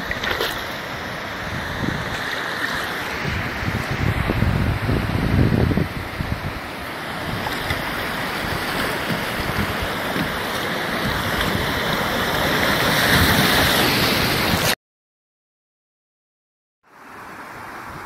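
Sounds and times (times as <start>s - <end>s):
rushing whitewater: 0.0s - 14.8s.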